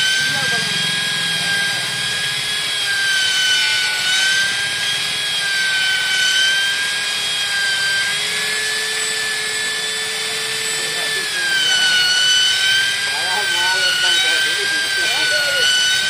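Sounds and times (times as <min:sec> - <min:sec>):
hammer drill boring into concrete: 0:00.0 - 0:16.0.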